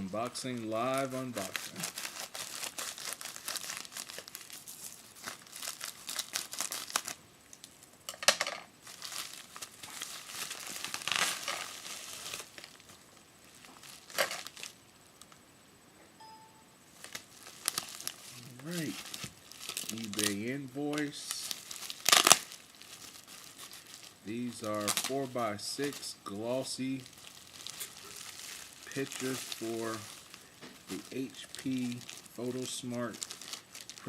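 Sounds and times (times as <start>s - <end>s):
packaging crinkling: 0.0s - 7.8s, 8.8s - 15.4s, 16.9s - 34.0s
packaging ripping: 0.9s - 7.2s, 8.8s - 14.8s, 17.0s - 26.0s, 26.8s - 34.0s.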